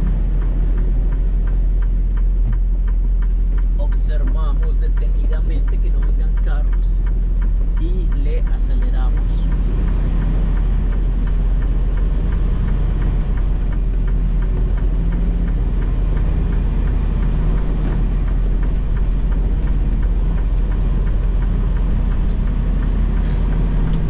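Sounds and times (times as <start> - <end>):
light ticking: 0.0 - 24.0
truck diesel engine rumbling: 0.0 - 24.0.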